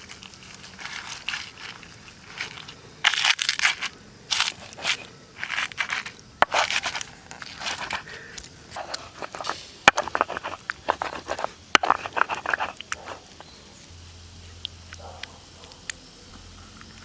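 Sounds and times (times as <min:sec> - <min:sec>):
crunchy chewing and biting: 0:00.0 - 0:17.0.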